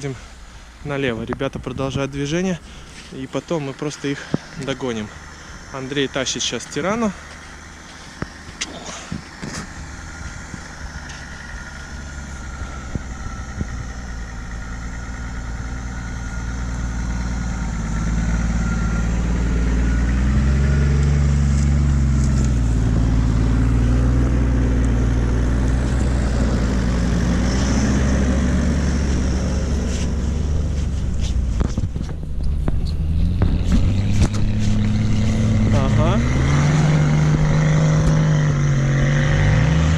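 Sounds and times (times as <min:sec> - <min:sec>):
engine working under load: 0:00.0 - 0:39.9.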